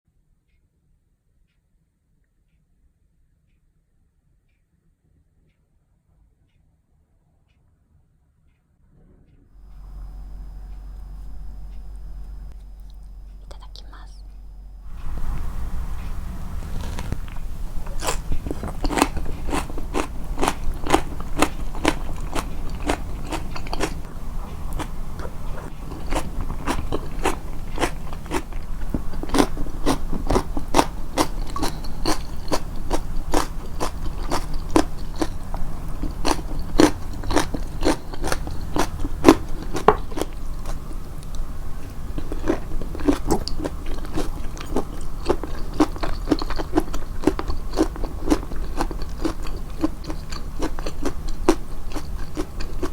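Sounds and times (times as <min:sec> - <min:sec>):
chewing crunchy food: 0:09.6 - 0:52.9.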